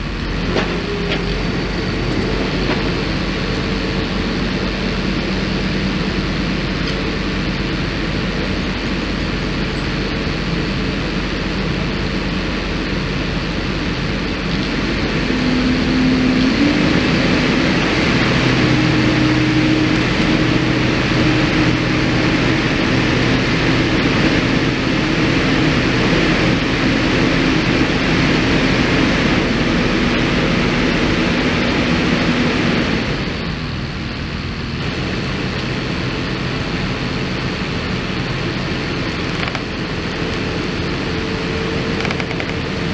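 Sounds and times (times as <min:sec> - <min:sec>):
machine engine running and revving: 0:00.0 - 0:42.9.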